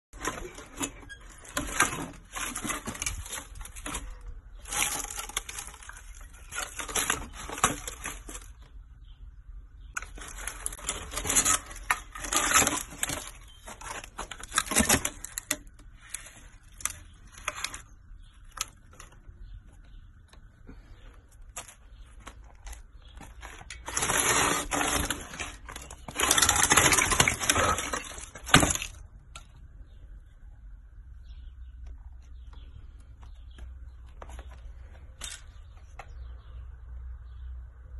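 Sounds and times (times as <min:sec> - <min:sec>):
bike frame rattling and crackling: 0:00.1 - 0:08.7, 0:09.9 - 0:30.0, 0:32.5 - 0:36.2.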